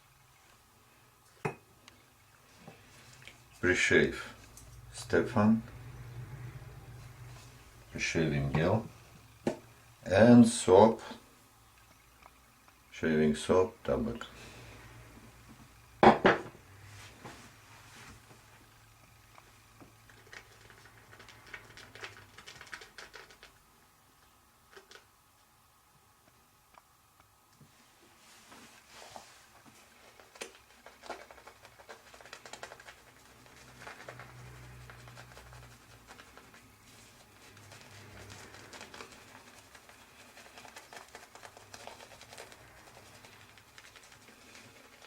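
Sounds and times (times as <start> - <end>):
faint low hum: 0.0 - 45.0.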